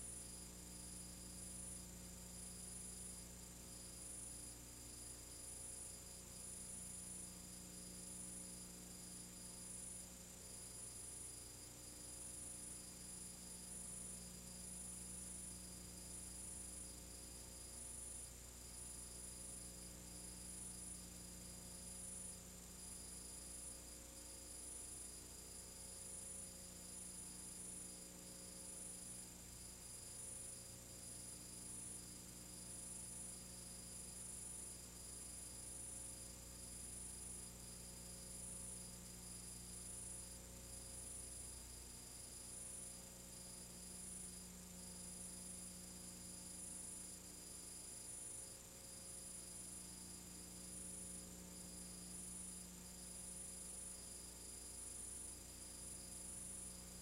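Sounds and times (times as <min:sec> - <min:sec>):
faint mains hum: 0:00.0 - 0:57.0.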